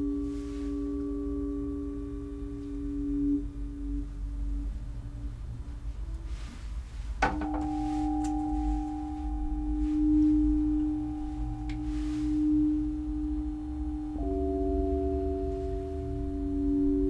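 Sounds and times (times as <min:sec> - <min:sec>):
low hum: 0:00.0 - 0:17.0
sustained pure tones music: 0:00.0 - 0:17.0.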